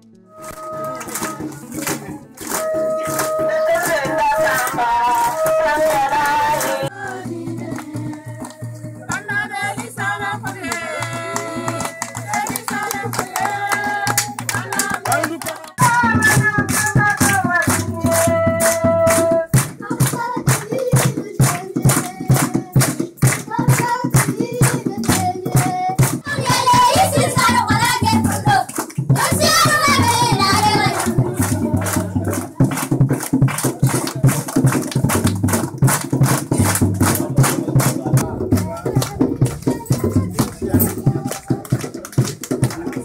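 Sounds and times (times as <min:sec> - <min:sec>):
hand percussion: 0:00.0 - 0:43.0
women singing: 0:00.3 - 0:32.7, 0:38.2 - 0:43.0.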